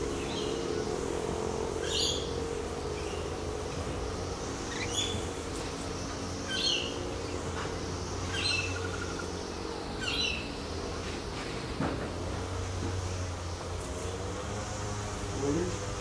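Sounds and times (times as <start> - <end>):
birds calling: 0.0 - 16.0
steady low hum: 0.0 - 16.0.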